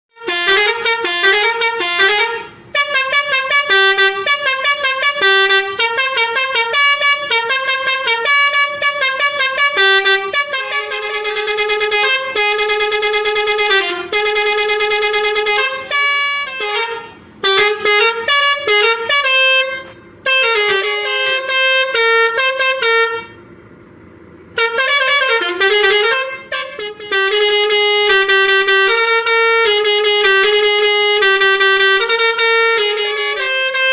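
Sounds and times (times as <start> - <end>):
bus horn playing a melody: 0.1 - 23.8, 24.4 - 33.9.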